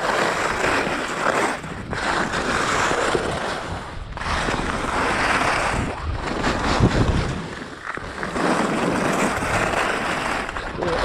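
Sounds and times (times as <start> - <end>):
skis scraping over snow: 0.0 - 11.0
wind rumbling on microphone: 0.0 - 11.0.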